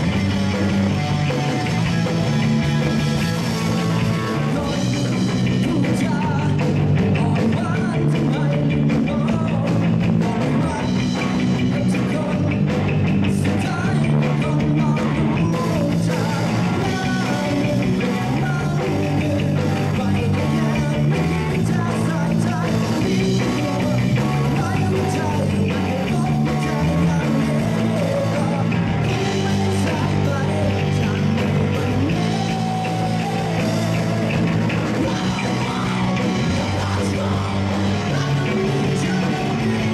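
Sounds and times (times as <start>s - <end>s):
rock band playing: 0.0s - 39.9s
person singing: 3.7s - 39.9s.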